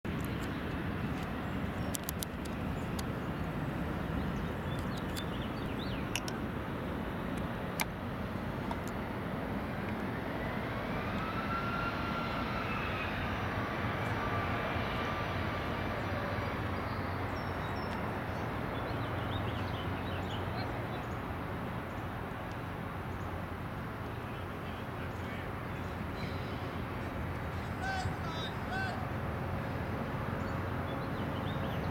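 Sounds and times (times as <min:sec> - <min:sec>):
jet airplane passing overhead: 0:00.1 - 0:31.9.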